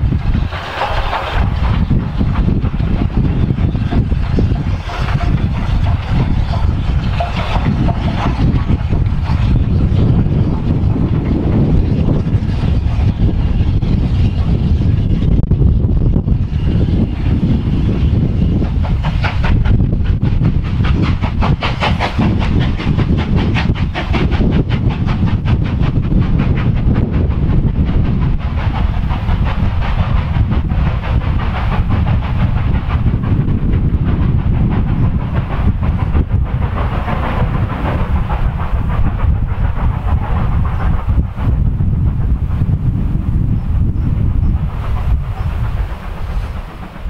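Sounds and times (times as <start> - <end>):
distant steam train passing: 0.0 - 47.0
wind buffeting microphone: 0.0 - 47.0.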